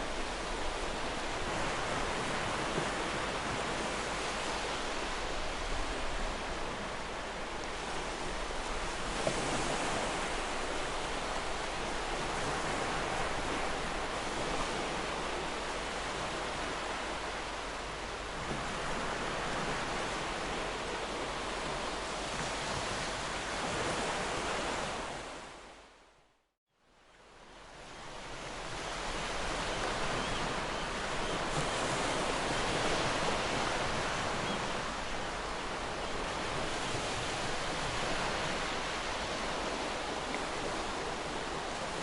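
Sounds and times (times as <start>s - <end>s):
sea waves washing on shore: 0.0s - 25.9s, 27.2s - 42.0s.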